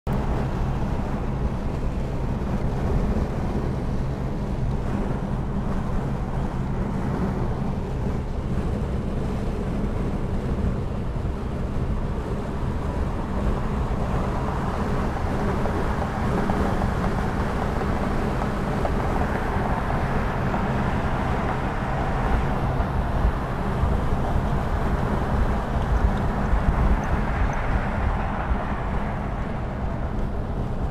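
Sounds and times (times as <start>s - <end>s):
engine drone: 0.1s - 30.9s
tyre and wind noise: 0.1s - 30.9s.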